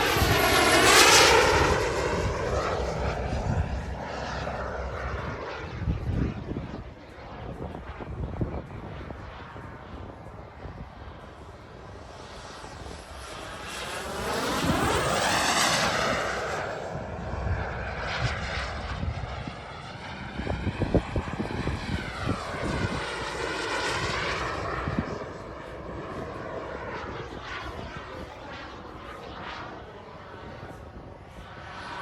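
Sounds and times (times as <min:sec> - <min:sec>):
jet turbine whining: 0:00.0 - 0:32.0.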